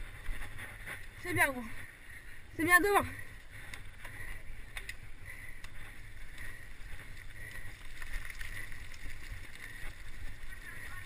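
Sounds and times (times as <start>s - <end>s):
bike rattling: 0.0s - 11.0s
tyres rumbling on trail: 0.0s - 11.0s
wind: 0.0s - 11.0s.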